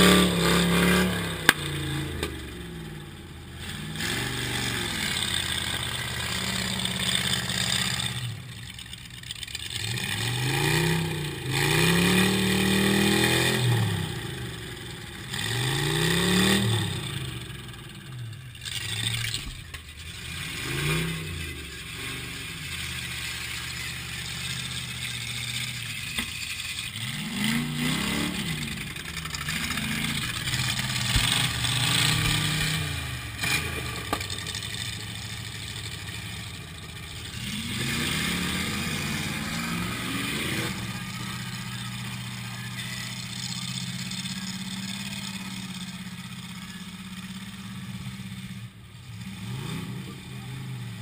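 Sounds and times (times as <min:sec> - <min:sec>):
car engine revving and idling: 0:00.0 - 0:51.0.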